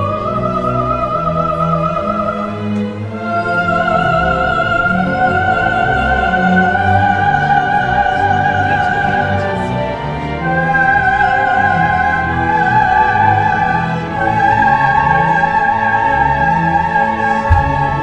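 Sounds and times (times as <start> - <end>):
orchestral accompaniment: 0.0 - 18.0
soprano singing wordless melody: 0.0 - 18.0.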